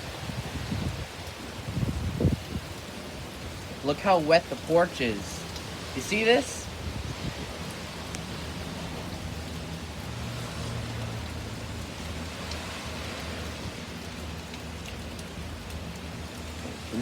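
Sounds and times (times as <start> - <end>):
heavy rain pouring: 0.0 - 17.0
low wind rumble: 0.0 - 17.0.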